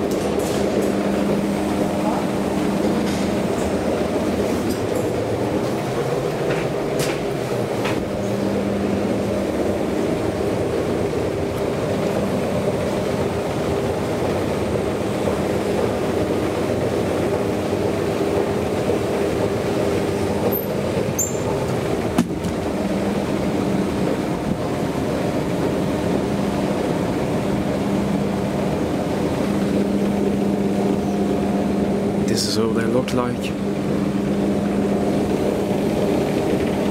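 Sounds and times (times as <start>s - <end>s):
elevator rumble and hum: 0.0s - 36.9s.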